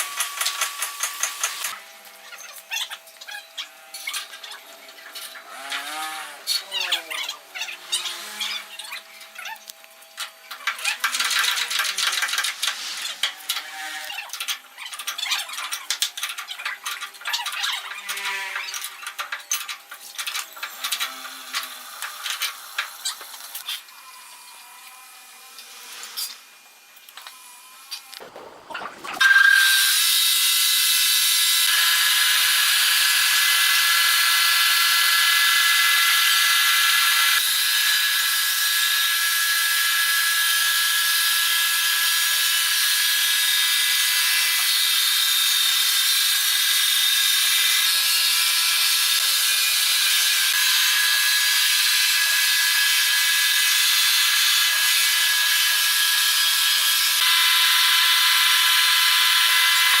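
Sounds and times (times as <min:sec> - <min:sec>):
saw whining: 0:00.0 - 1:00.0.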